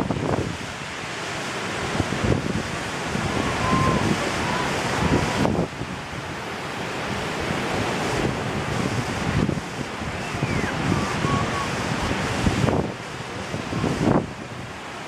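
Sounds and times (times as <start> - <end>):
wind buffeting microphone: 0.0 - 0.9, 1.6 - 15.0
ocean surf breaking: 0.0 - 15.0.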